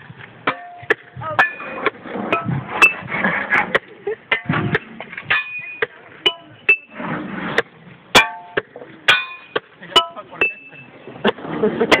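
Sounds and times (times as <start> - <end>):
sledgehammer clanging on metal: 0.4 - 3.1, 3.7 - 7.0, 8.1 - 12.0.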